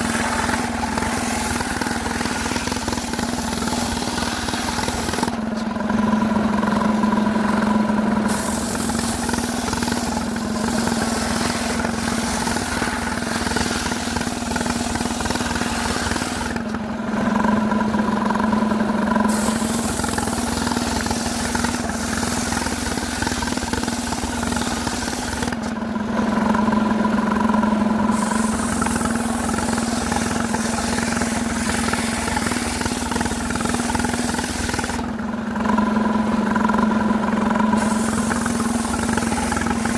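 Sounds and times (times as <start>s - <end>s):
chainsaw engine running: 0.0s - 39.9s
chainsaw rasping through wood: 0.0s - 39.9s.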